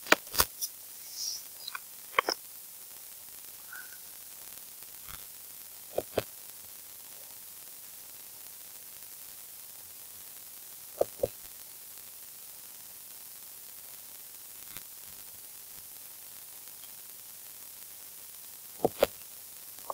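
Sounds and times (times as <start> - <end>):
steady hiss: 0.0 - 19.9.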